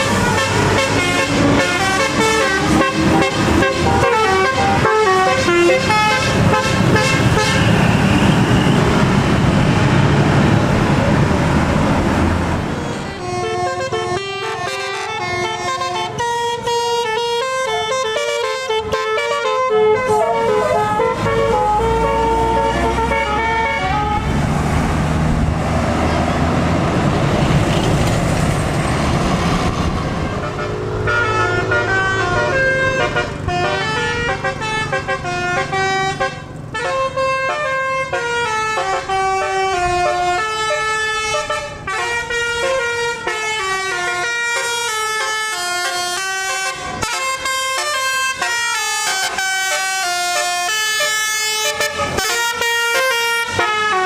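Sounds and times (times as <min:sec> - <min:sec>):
bus musical horn playing a tune: 0:00.0 - 0:09.9, 0:12.6 - 0:24.4, 0:30.3 - 0:54.0
engine and road noise: 0:00.0 - 0:54.0.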